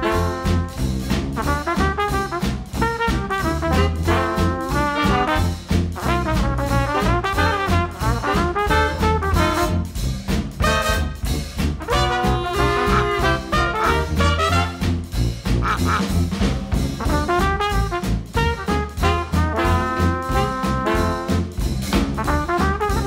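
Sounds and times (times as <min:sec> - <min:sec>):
brass swing jazz: 0:00.0 - 0:23.0.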